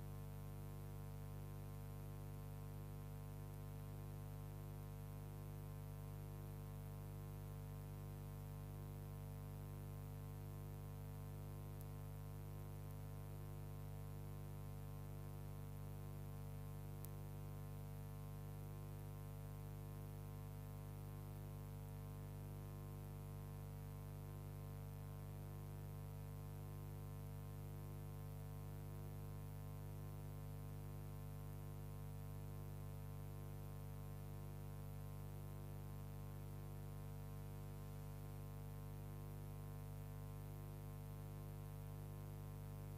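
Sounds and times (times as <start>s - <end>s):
mains hum: 0.0s - 42.9s.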